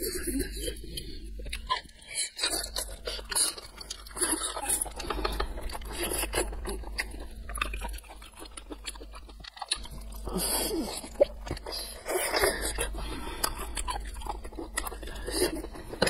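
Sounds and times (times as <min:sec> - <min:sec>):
close chewing with wet smacks: 0:00.6 - 0:16.0.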